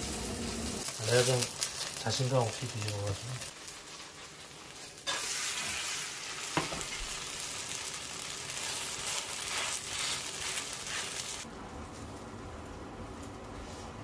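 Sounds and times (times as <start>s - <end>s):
pancake sizzling in oil: 0.0s - 11.5s.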